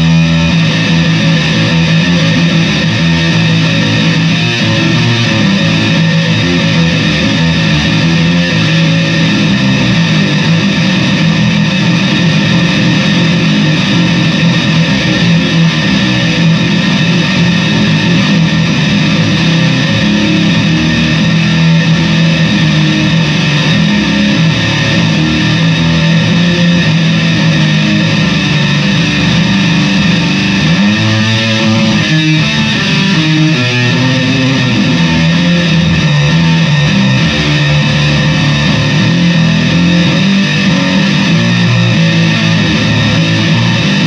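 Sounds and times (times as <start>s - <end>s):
heavily distorted bass guitar: 0.0s - 44.0s.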